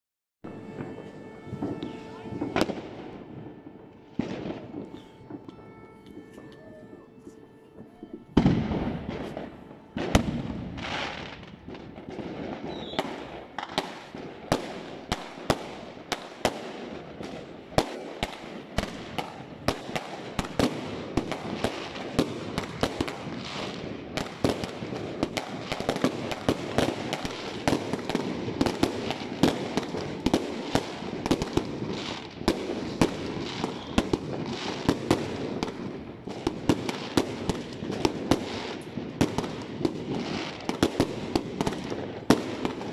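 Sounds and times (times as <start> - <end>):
fireworks banging: 0.4 - 42.9
fireworks crackling: 0.4 - 42.9.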